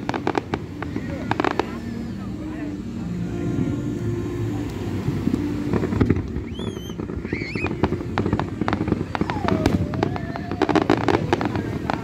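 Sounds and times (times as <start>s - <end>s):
fireworks bangs and crackling: 0.0s - 12.0s
wavering firework whistle: 0.0s - 12.0s.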